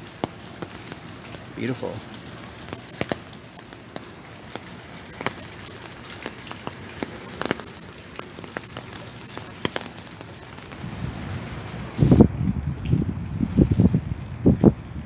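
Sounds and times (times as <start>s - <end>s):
rain falling: 0.0s - 15.0s
raindrops ticking on a surface: 0.0s - 15.0s.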